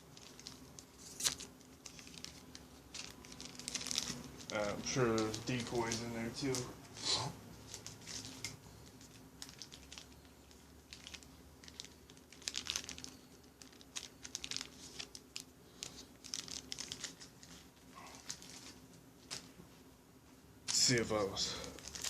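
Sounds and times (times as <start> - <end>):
plastic wrappers crinkling: 0.0 - 19.6, 20.6 - 22.0.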